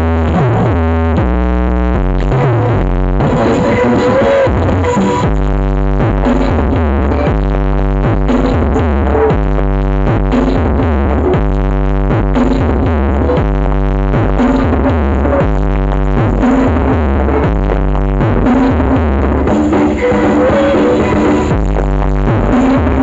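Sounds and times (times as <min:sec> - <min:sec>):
electronic dance music: 0:00.0 - 0:23.0.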